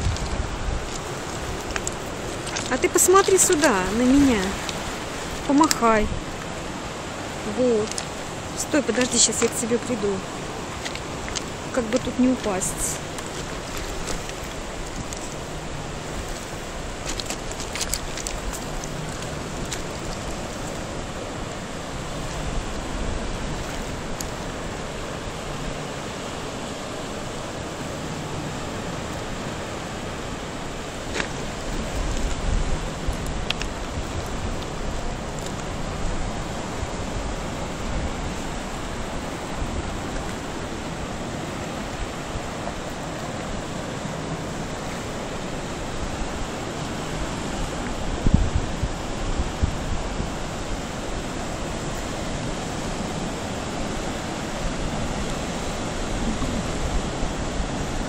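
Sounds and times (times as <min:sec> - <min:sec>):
surf breaking on rocks: 0:00.0 - 0:58.0
wind on microphone: 0:00.0 - 0:58.0.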